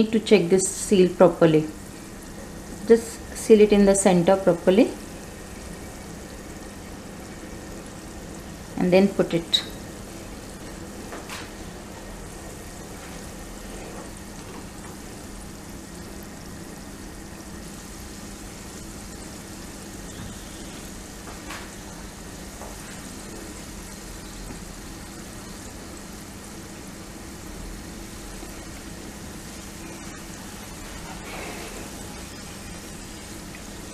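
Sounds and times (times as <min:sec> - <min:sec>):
oil bubbling and sizzling: 0:00.0 - 0:33.9.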